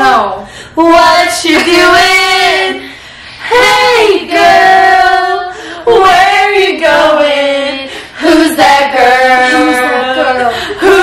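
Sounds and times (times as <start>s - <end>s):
young women singing together: 0.0s - 11.0s.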